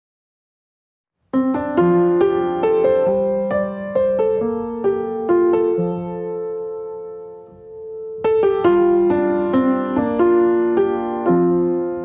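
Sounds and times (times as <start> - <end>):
upright piano playing: 1.3 - 12.0.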